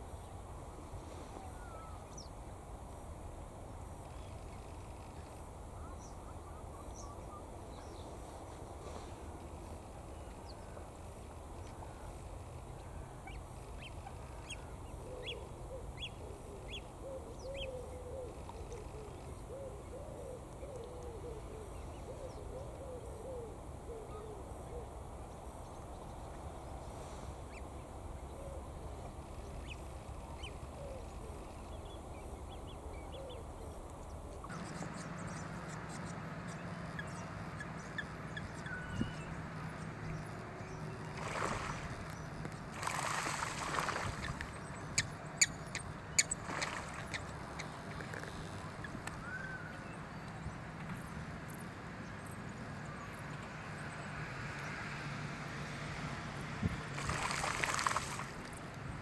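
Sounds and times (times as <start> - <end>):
wetland ambience: 0.0 - 59.0.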